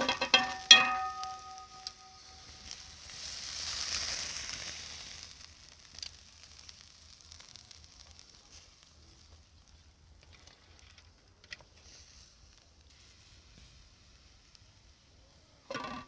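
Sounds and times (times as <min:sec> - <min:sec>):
meat sizzling over charcoal: 0:00.0 - 0:16.0.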